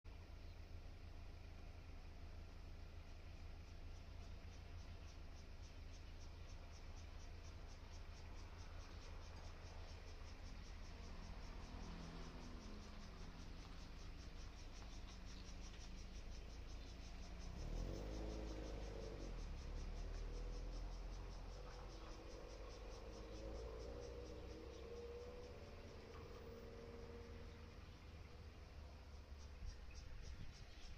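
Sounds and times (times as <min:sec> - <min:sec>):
insects chirping: 0:00.1 - 0:30.9.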